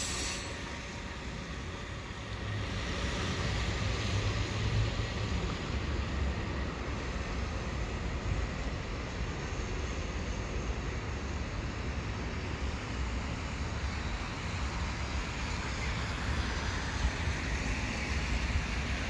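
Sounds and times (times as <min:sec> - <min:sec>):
train rumbling with hiss: 0:00.0 - 0:19.0.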